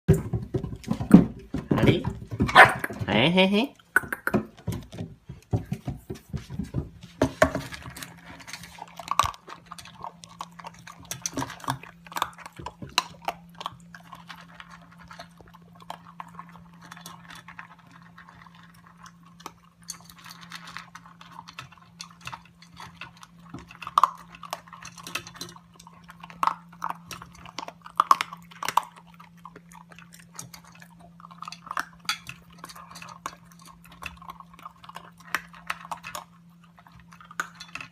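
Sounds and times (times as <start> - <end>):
dog chewing and crunching: 0.1 - 37.9.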